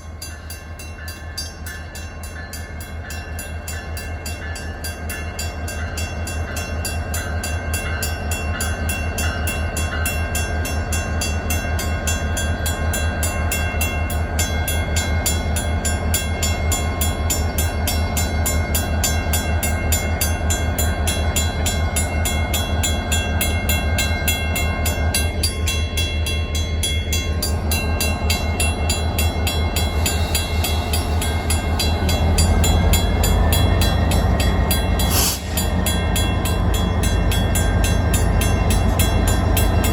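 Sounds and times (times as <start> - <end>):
crossing bell ringing: 0.0 - 39.9
diesel locomotive rumble: 0.0 - 39.9.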